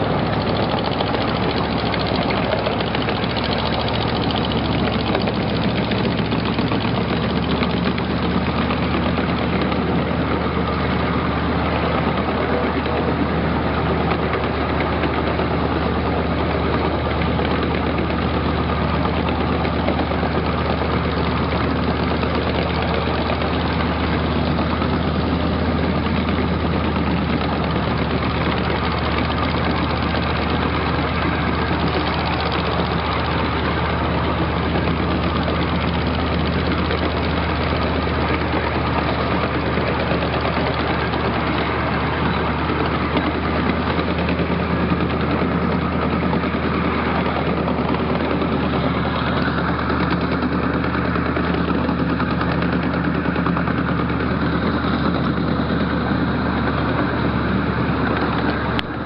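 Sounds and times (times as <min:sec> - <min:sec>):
train engine drone: 0:00.0 - 0:59.0
train wheels rumbling on track: 0:00.0 - 0:59.0.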